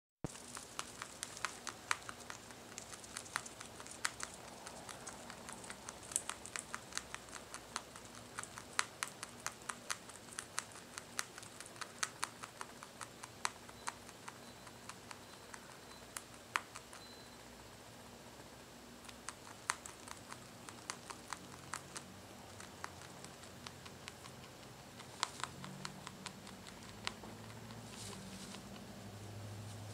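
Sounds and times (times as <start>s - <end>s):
rabbit chewing hay: 0.2s - 17.7s, 18.3s - 29.9s.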